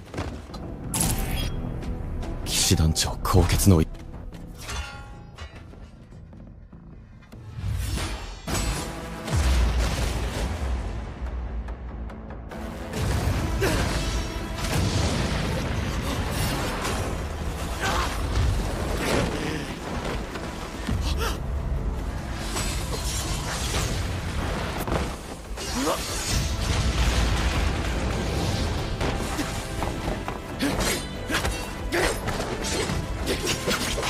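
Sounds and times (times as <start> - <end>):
dramatic music: 0.0 - 34.0.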